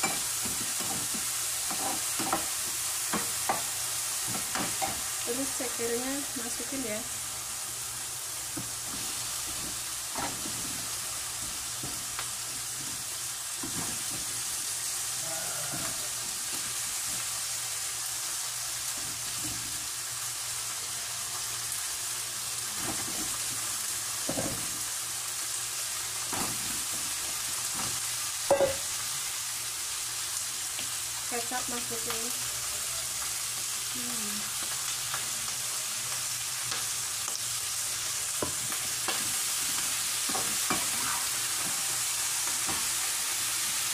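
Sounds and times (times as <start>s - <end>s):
food sizzling in hot oil: 0.0s - 43.9s.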